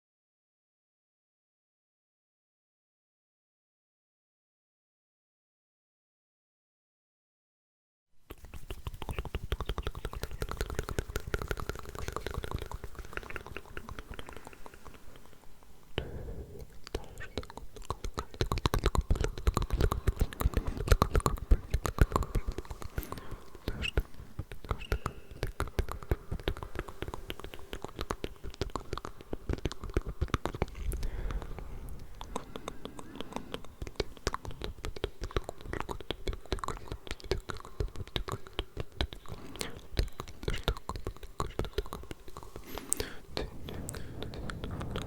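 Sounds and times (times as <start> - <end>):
wet mouth clicks: 8.3 - 45.0
unintelligible whispering: 8.4 - 45.0.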